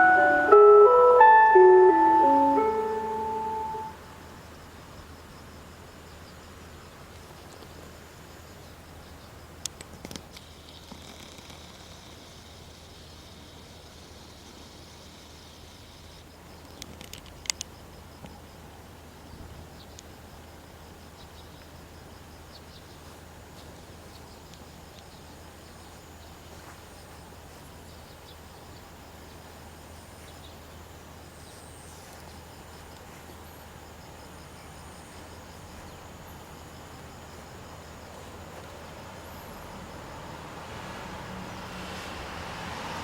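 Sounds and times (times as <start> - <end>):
insects chirping: 0.1 - 41.8.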